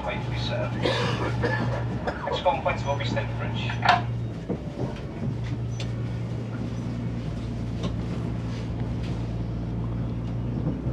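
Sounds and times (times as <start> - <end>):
train low drone: 0.0 - 10.9.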